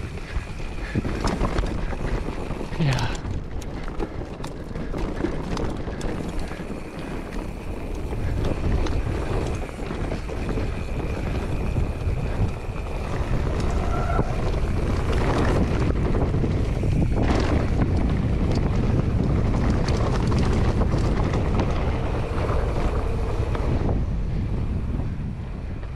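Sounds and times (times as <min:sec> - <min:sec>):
bike rattling and knocking: 0:00.0 - 0:25.9
tyres running over dirt: 0:00.0 - 0:25.9
wind buffeting microphone: 0:00.0 - 0:25.9.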